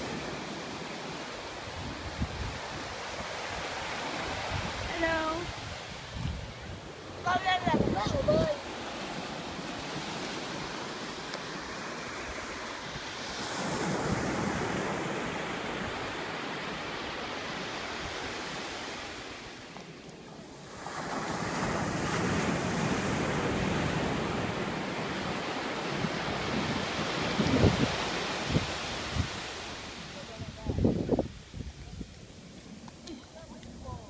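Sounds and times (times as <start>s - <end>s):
wind rumbling on microphone: 0.0s - 11.0s, 12.2s - 34.0s
sea surf breaking on beach: 0.0s - 34.0s.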